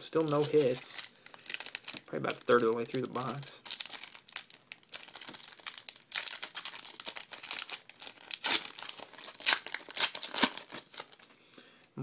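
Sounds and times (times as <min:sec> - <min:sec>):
card pack wrapper crinkling and tearing: 0:00.0 - 0:11.3.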